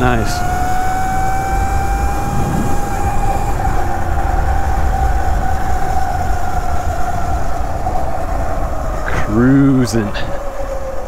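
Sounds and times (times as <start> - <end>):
electric motor whining: 0.0 - 9.6
wind rumbling on microphone: 0.0 - 11.0.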